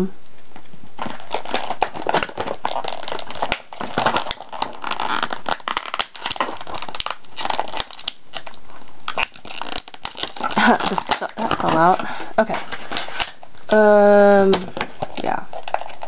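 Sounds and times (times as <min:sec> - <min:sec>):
plastic wrapping crinkling: 0:00.9 - 0:13.7, 0:14.4 - 0:16.0.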